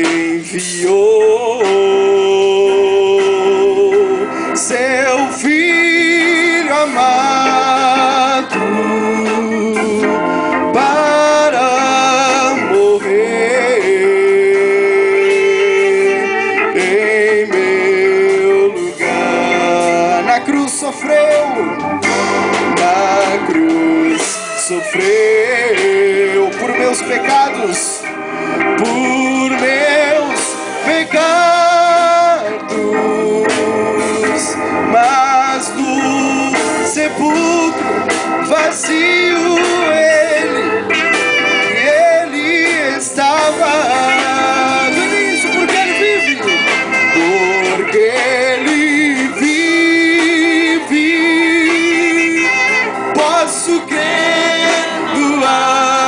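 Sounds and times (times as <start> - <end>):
band playing worship song: 0.0 - 56.0
person singing long notes: 0.0 - 56.0.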